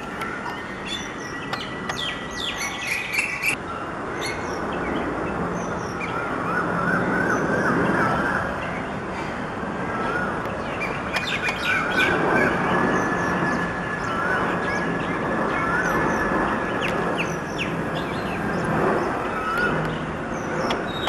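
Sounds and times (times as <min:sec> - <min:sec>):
birds chirping: 0:00.0 - 0:21.0
jet engines rumbling: 0:00.0 - 0:21.0.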